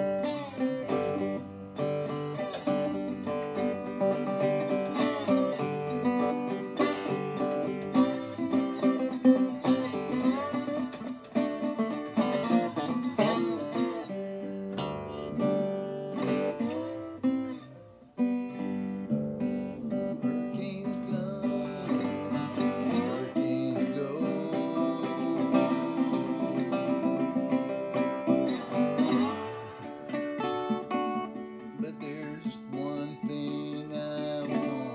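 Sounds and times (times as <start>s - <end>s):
resonator guitar sliding melody: 0.0s - 34.9s.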